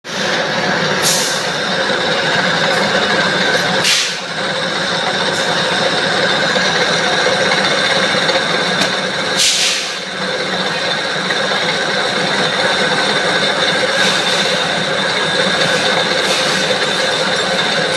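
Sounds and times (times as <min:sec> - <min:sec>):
metalworking machine humming: 0:00.1 - 0:17.9.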